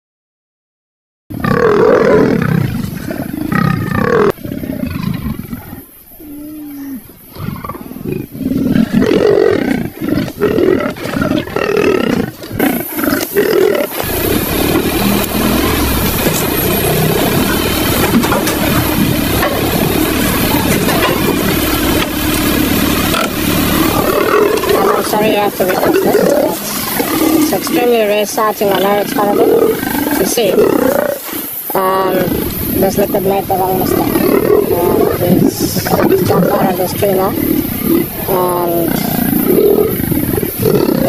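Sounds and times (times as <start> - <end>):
big cats growling: 1.3 - 41.0
low rumble: 2.8 - 40.9.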